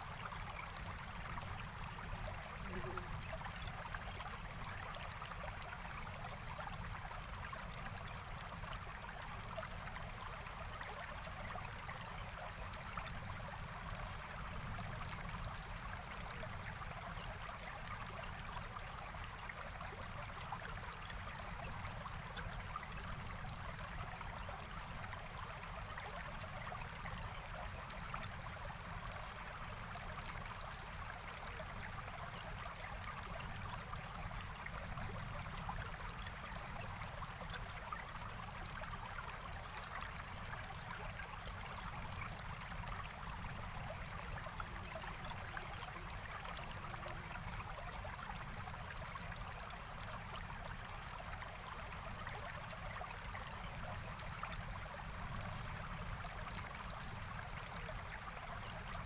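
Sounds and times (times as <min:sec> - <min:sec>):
stream burbling over stones: 0:00.0 - 0:59.0.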